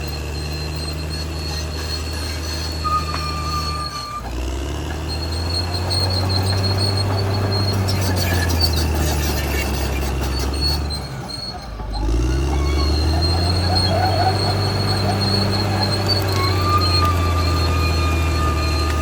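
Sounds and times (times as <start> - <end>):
bulldozer diesel engine: 0.0 - 19.0
high squeals of tracks: 0.0 - 19.0.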